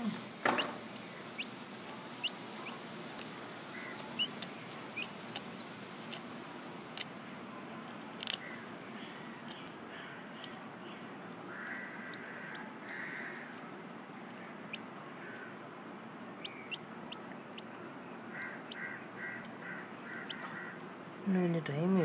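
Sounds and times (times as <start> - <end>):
domestic birds calling: 0.0 - 6.3, 8.3 - 22.0
steady background hiss: 0.0 - 22.0.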